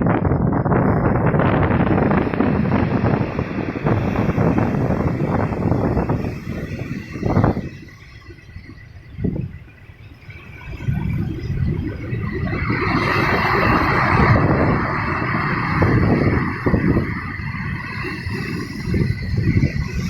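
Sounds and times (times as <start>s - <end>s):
ocean waves breaking: 1.6s - 20.0s.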